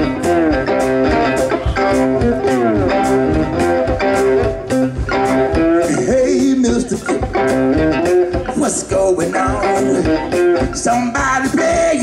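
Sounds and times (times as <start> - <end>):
bass: 0.0 - 12.0
blues music: 0.0 - 12.0
electric guitar bent notes: 0.0 - 12.0
steady drum beat: 0.0 - 12.0.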